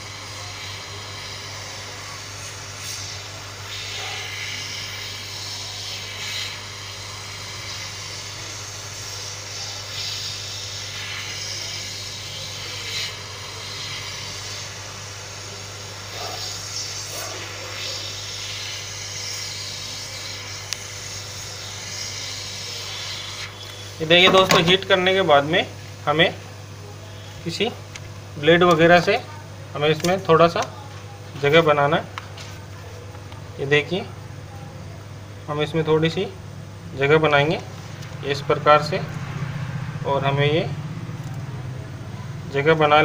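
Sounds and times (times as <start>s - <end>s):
hot air blower hissing: 0.0s - 32.2s, 35.2s - 43.0s.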